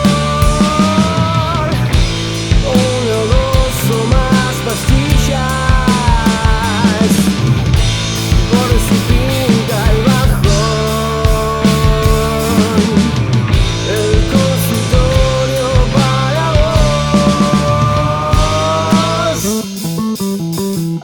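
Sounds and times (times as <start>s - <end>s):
bending lead guitar line: 0.0s - 21.0s
drum kit hits: 0.0s - 21.0s
rock band playing: 0.0s - 21.0s.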